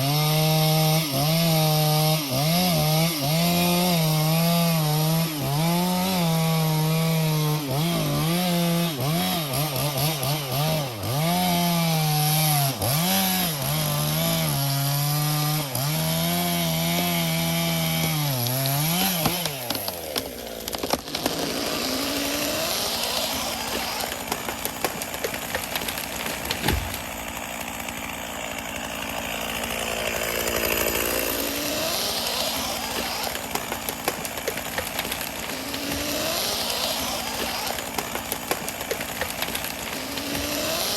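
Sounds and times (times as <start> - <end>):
chainsaw cutting wood: 0.0 - 40.9
sharp wood crack: 0.2 - 40.9.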